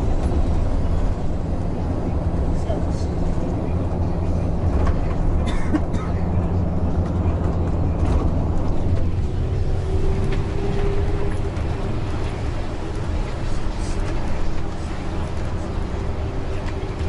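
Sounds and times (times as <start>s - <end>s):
bus engine running: 0.0s - 17.0s
road noise: 0.0s - 17.0s.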